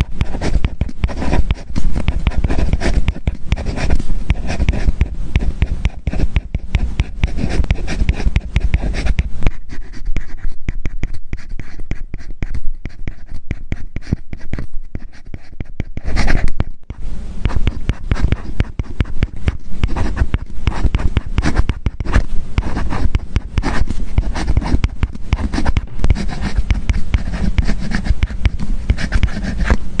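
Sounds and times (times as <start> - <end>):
stylus scratching and tapping on tablet: 0.0 - 30.0.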